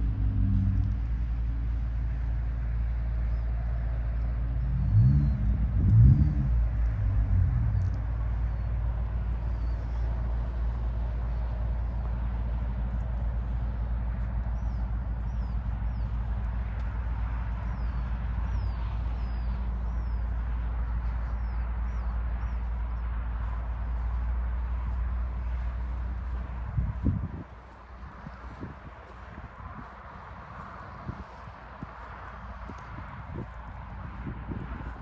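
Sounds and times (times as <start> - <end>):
road noise: 0.0 - 35.0
vehicle engine drone: 0.0 - 35.0.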